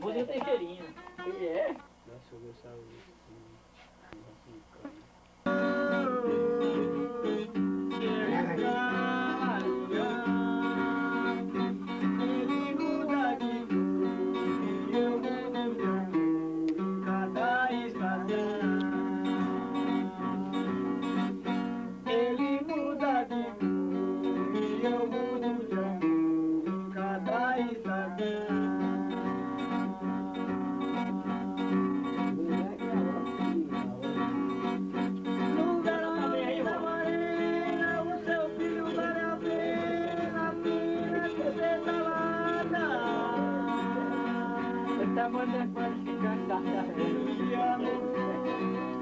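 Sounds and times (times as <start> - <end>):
acoustic guitar tune: 0.0 - 49.0.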